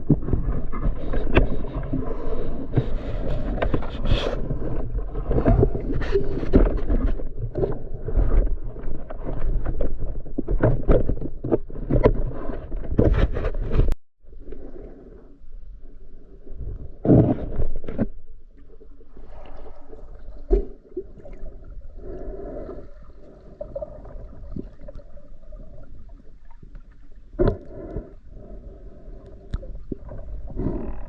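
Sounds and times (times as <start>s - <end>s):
water sloshing against camera: 0.0s - 31.0s.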